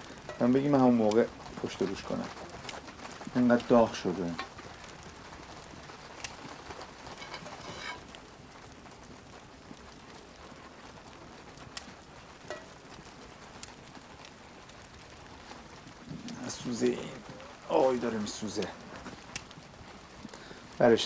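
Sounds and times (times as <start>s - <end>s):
sharp fire pops: 0.0s - 21.0s
wood fire crackling: 0.0s - 21.0s.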